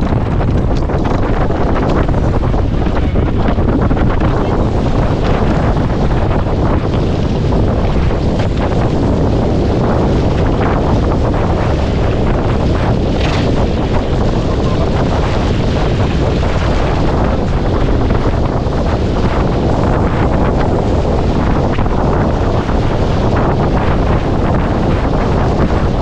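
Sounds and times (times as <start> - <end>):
water rushing along hull: 0.0 - 26.0
wind buffeting microphone: 0.0 - 26.0.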